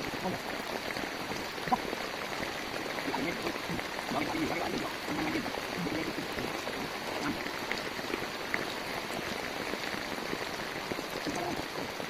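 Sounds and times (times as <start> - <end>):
rushing water: 0.0 - 12.0
small drips and taps: 0.0 - 12.0.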